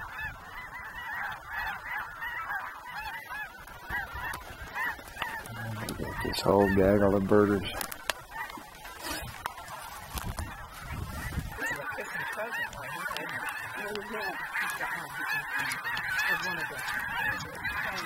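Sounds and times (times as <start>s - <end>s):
geese honking: 0.0s - 18.0s.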